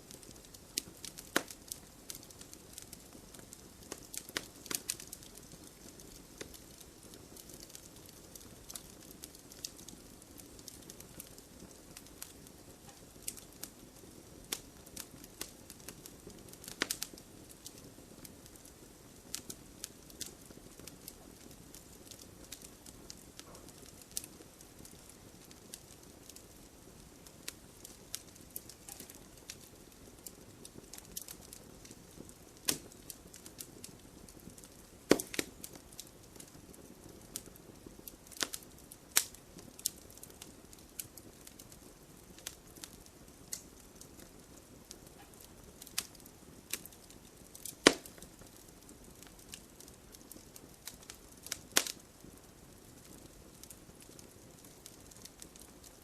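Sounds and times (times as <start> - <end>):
firewood crackling and popping: 0.0 - 56.0
fire hissing: 0.1 - 56.0.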